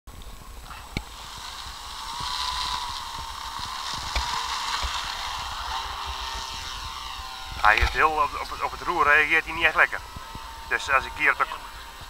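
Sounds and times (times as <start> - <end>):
propeller aircraft engine: 0.1 - 12.0.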